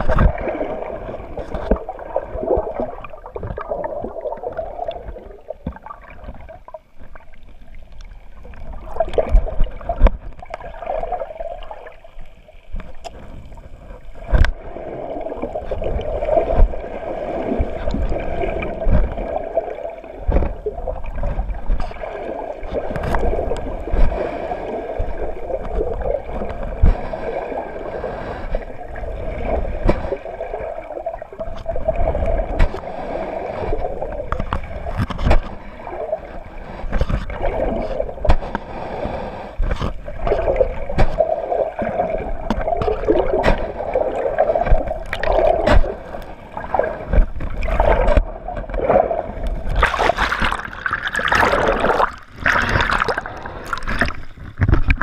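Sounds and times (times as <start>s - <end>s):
muffled underwater sloshing: 0.0s - 55.0s
water splashing: 0.0s - 55.0s.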